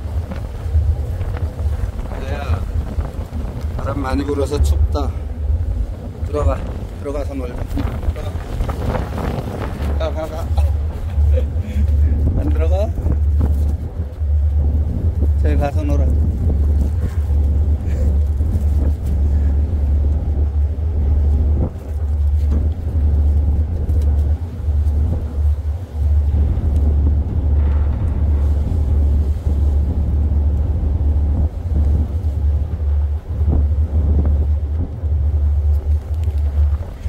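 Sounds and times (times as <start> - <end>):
ship's engine rumbling: 0.0 - 37.0.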